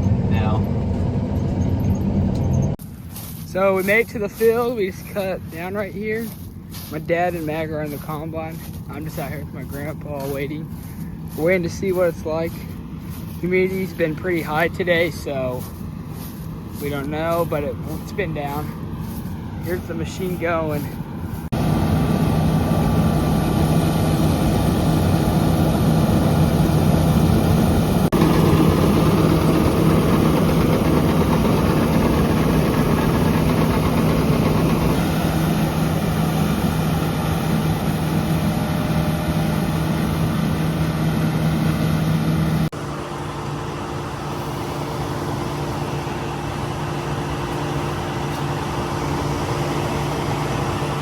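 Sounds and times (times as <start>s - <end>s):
combine harvester running: 0.0s - 51.0s.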